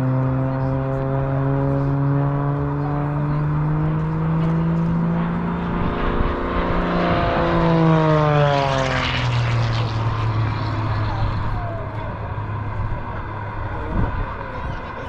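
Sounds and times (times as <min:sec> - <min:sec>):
propeller plane engine overhead: 0:00.0 - 0:15.0.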